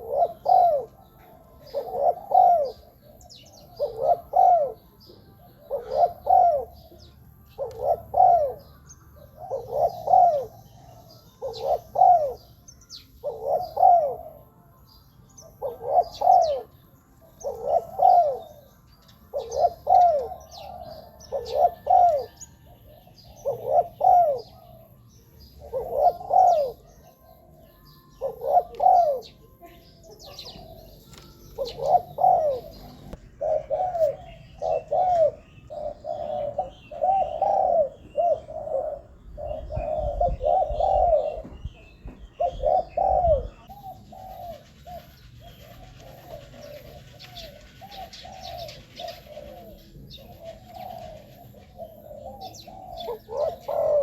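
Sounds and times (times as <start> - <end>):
dove cooing: 0.0 - 54.0
small birds chirping: 0.0 - 54.0.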